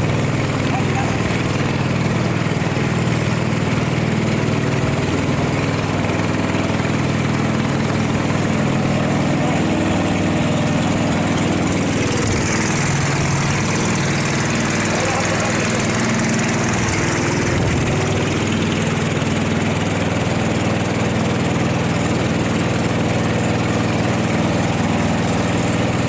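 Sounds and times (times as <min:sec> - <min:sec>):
boat motor running: 0:00.0 - 0:26.0
water rushing along hull: 0:00.0 - 0:26.0.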